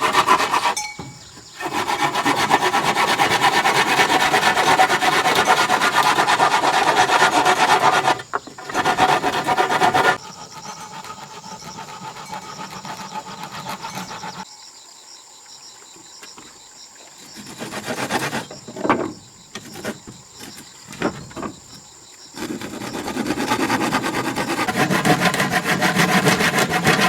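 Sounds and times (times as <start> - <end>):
tool scraping a surface: 0.0 - 14.4, 17.4 - 21.6, 22.4 - 27.0.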